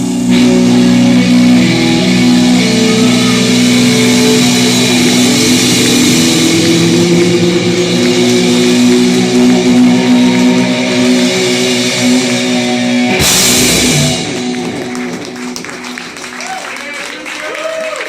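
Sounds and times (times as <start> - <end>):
electric guitar notes ringing: 0.0 - 16.8
live rock band playing: 0.0 - 16.8.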